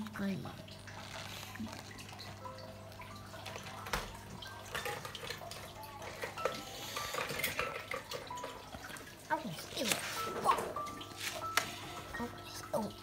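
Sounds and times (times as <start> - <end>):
aquarium water trickling and bubbling: 0.0 - 13.0.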